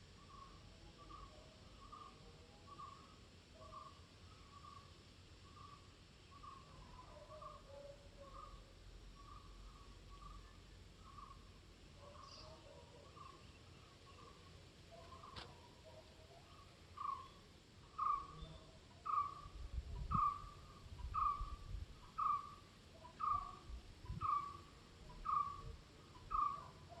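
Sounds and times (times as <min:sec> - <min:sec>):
faint background hiss: 0:00.0 - 0:27.0.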